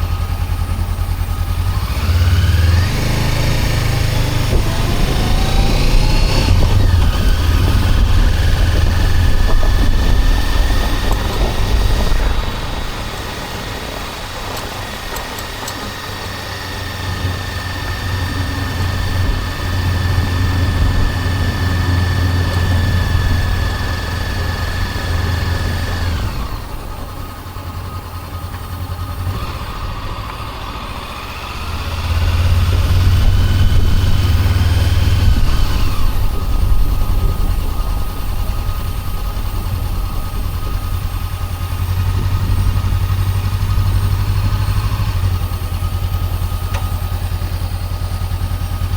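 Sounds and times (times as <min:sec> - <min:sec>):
high whine: 0:00.0 - 0:29.4, 0:33.1 - 0:48.9
motorcycle engine running: 0:00.0 - 0:48.9.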